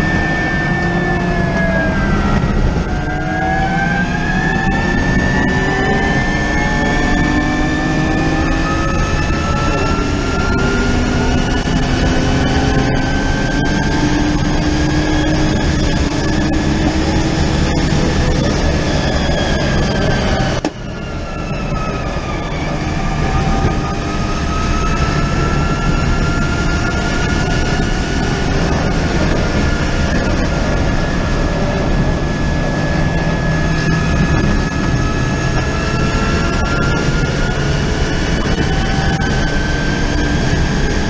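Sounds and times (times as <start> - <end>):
electric drivetrain whine: 0.0 - 41.0
wind and road noise: 0.0 - 41.0.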